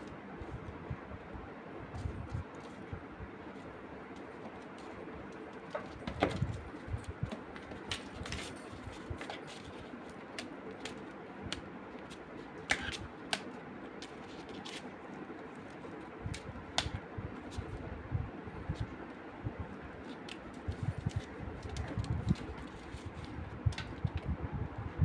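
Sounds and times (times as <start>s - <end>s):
kitten paws on cardboard: 1.8s - 17.8s, 19.9s - 24.3s.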